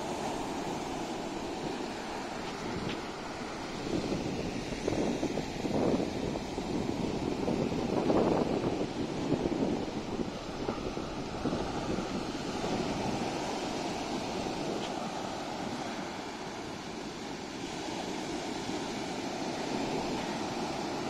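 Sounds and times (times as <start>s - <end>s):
sea surf washing onto beach: 0.0s - 21.0s
wind on microphone: 0.0s - 21.0s.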